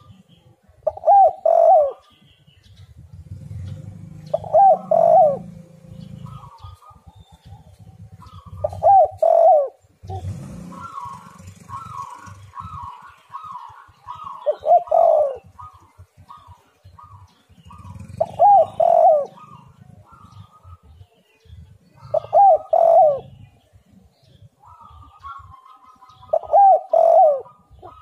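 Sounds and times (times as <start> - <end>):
dove cooing: 0.0 - 2.3, 3.0 - 28.0.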